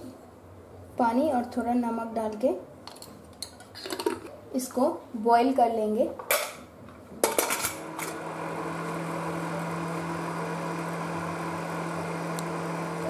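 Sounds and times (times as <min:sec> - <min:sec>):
cooktop hum with fan hiss: 0:00.0 - 0:13.0.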